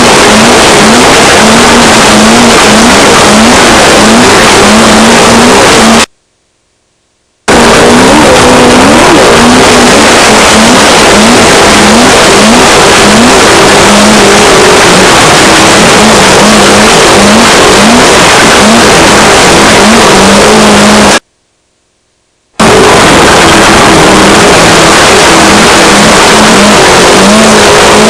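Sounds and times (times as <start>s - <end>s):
race engine revving: 0.0s - 6.1s, 7.5s - 21.2s, 22.6s - 28.0s.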